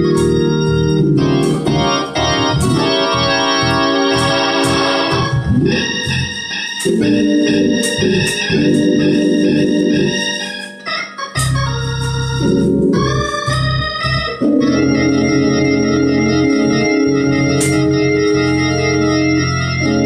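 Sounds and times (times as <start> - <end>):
low organ bass part: 0.0 - 20.0
organ chords: 0.0 - 20.0.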